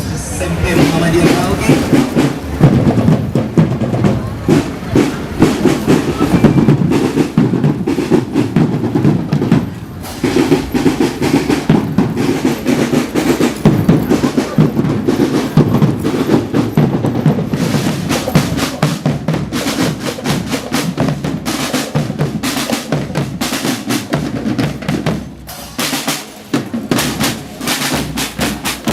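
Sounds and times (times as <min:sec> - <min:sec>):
snare drums: 0:00.4 - 0:28.9
bass drums: 0:00.6 - 0:28.9.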